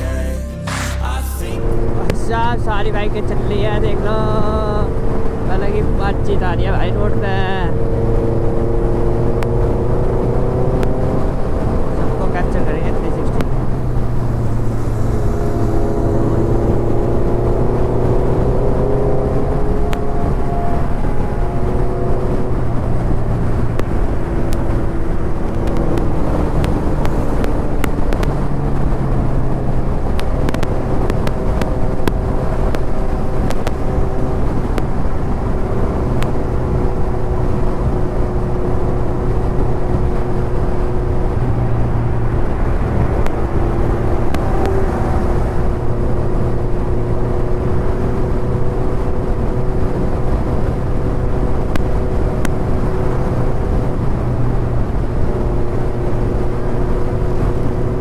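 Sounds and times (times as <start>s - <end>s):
road and wind rumble: 0.0s - 58.0s
motorcycle engine cruising: 1.6s - 58.0s.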